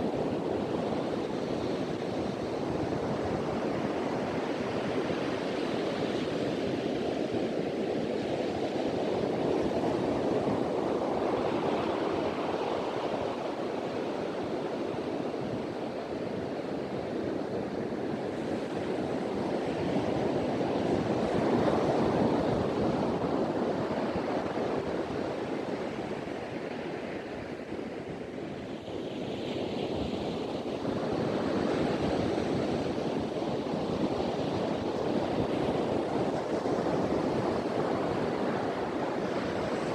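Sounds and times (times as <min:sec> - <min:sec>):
ocean waves breaking on beach: 0:00.0 - 0:39.9
wind on microphone: 0:00.0 - 0:39.9.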